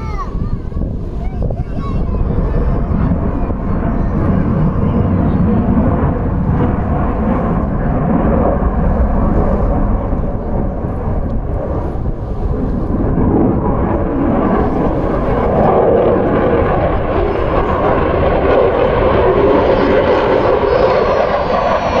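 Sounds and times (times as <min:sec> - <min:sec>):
jet fighter flying by: 0:00.0 - 0:22.0.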